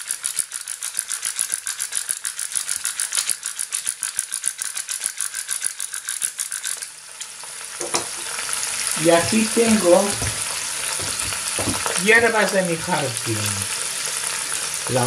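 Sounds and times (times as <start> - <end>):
pepper grinder clicking: 0.0 - 15.0.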